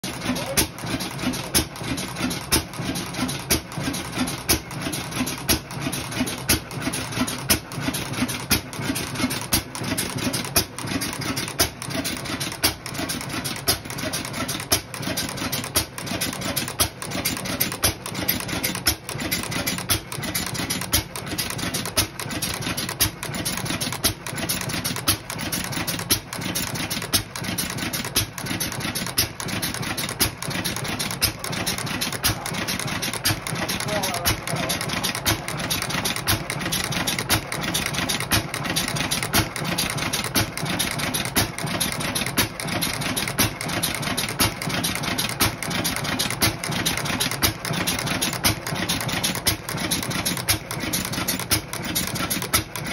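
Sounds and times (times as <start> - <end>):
stationary engine running: 0.0 - 52.9.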